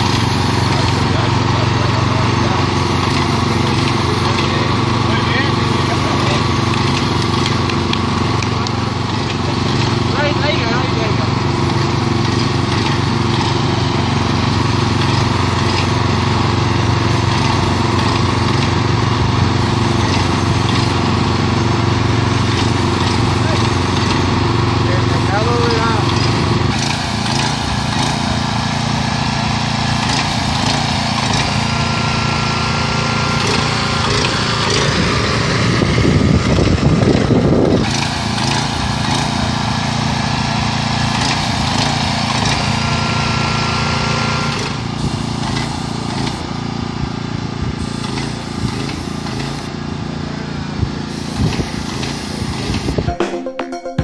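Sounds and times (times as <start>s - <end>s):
paint spray rushing: 0.0s - 46.9s, 47.5s - 53.1s
small petrol engine running: 0.0s - 53.1s.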